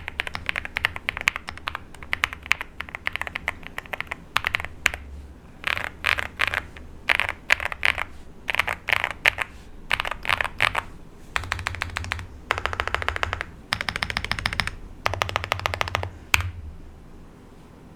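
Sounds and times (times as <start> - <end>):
mechanical keyboard typing: 0.0 - 16.6.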